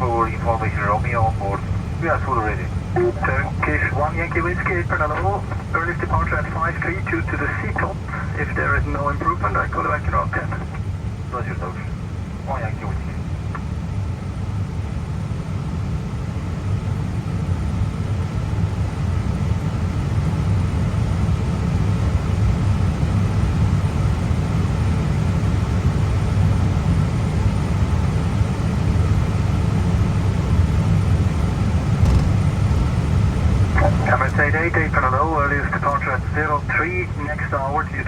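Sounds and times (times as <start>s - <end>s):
faint steady whine: 0.0s - 38.0s
jet engines idling: 0.0s - 38.0s.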